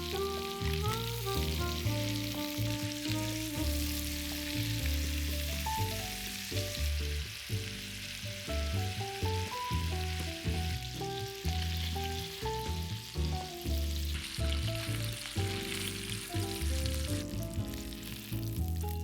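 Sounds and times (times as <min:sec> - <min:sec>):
background music with melody: 0:00.0 - 0:19.0
food sizzling in a pan: 0:00.0 - 0:19.0.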